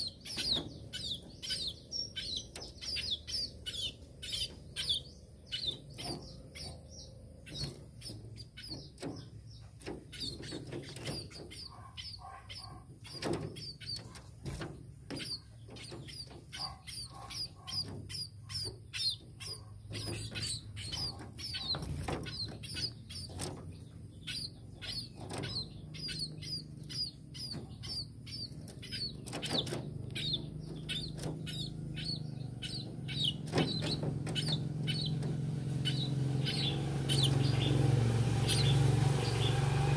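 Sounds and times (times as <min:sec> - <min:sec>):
bird chirping high: 0:00.0 - 0:39.9.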